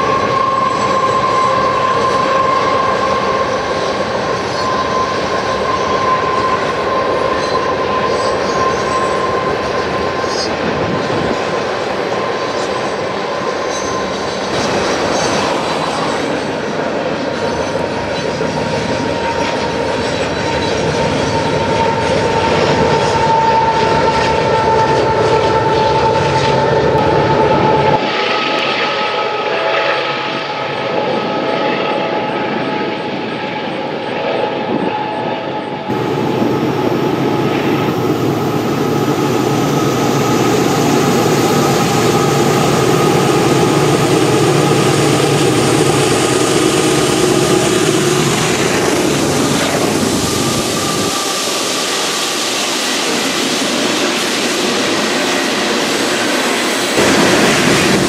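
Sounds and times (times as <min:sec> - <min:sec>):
train wheels rumbling on rails: 0:00.0 - 0:30.4, 0:34.6 - 0:58.0.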